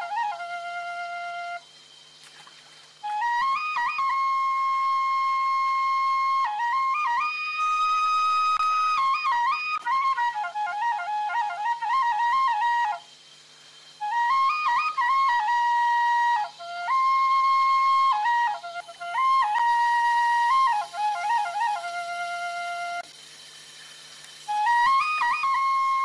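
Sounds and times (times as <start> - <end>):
solo flute melody: 0.0 - 2.2, 2.9 - 23.2, 24.3 - 26.0.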